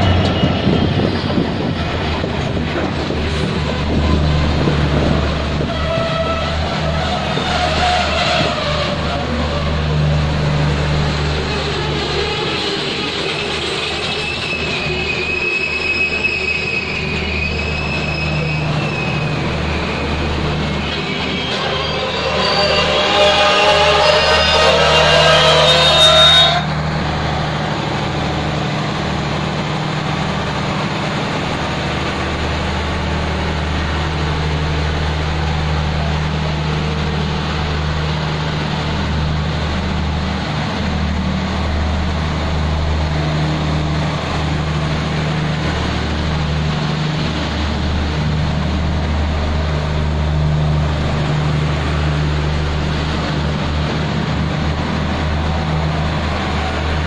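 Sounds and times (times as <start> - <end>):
diesel engine drone: 0.0 - 15.3, 16.1 - 57.0
passing train: 0.0 - 57.0
rumble of train wheels: 0.0 - 57.0.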